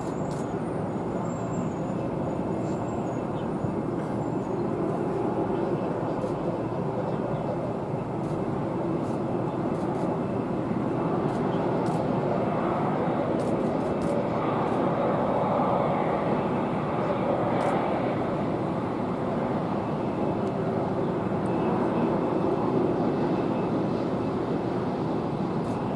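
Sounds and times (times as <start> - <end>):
jet engines at taxi power: 0.0 - 25.9.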